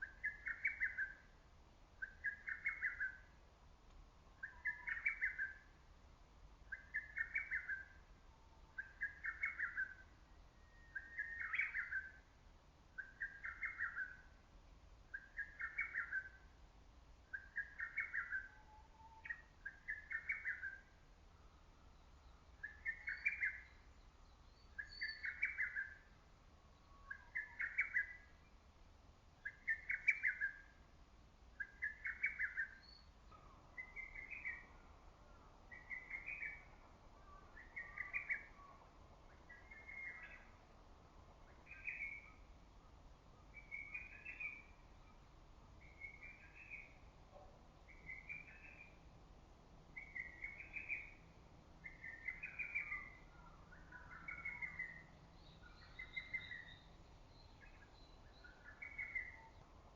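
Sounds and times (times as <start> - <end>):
faint bird calls: 0.0 - 1.4, 2.0 - 3.4, 4.2 - 5.9, 6.7 - 14.4, 15.1 - 16.6, 17.2 - 28.6, 29.4 - 30.9, 31.5 - 40.8, 41.4 - 49.1, 49.9 - 59.8.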